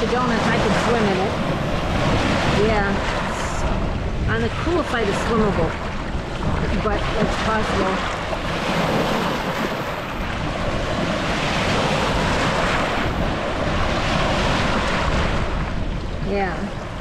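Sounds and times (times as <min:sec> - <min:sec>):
waves washing over cobbles: 0:00.0 - 0:16.4
wind buffeting microphone: 0:00.0 - 0:17.0.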